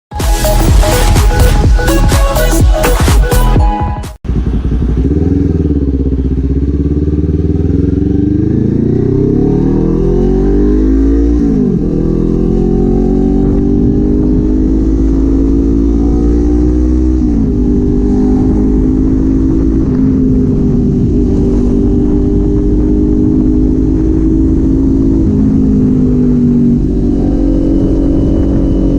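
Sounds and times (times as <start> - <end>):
motorcycle engine accelerating: 0.2 - 3.5, 4.2 - 28.9.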